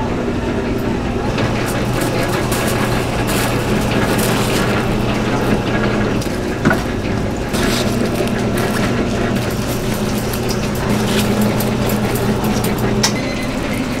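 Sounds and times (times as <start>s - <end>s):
steady machine hum: 0.0s - 14.0s
aluminium foil crinkling: 1.4s - 14.0s.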